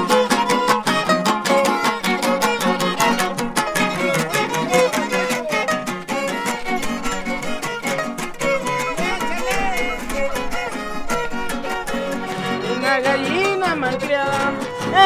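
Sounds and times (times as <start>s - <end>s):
bowed violin melody: 0.0s - 15.0s
fast guitar strumming: 0.0s - 15.0s.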